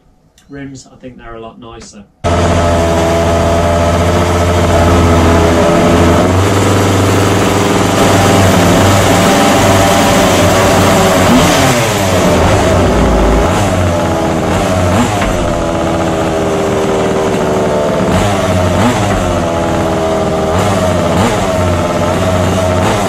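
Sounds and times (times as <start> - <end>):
small two-stroke engine revving: 2.2 - 23.0.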